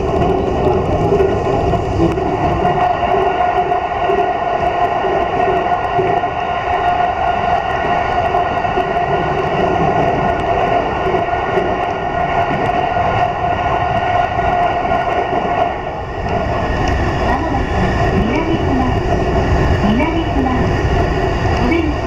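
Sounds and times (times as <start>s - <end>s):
train hum: 0.0s - 22.0s
train wheels rumbling on rail: 0.0s - 22.0s.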